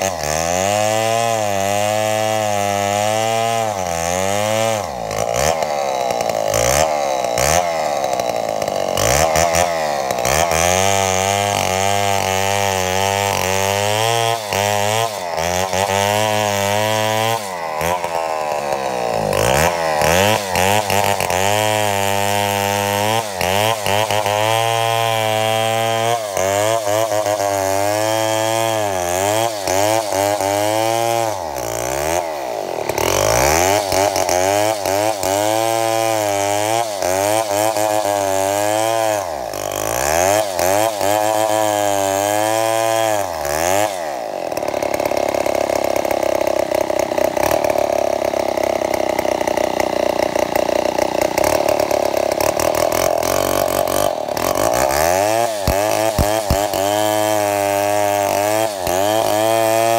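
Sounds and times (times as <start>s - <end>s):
chainsaw engine running unevenly: 0.0s - 59.9s.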